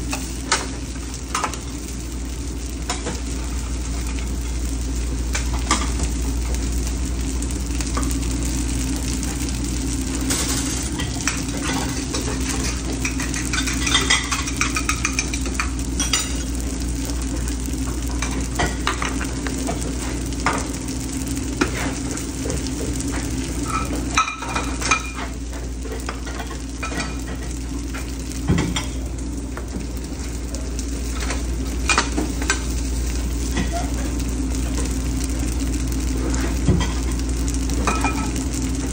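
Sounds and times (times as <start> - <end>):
food sizzling on griddle: 0.0 - 38.9
steady low hum: 0.0 - 38.9.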